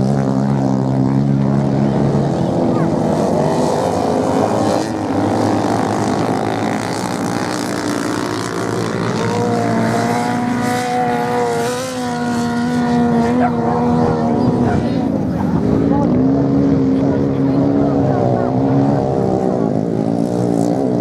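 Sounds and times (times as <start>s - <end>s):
motorcycle engine drone: 0.0s - 21.0s
motorcycle engines racing: 0.0s - 21.0s.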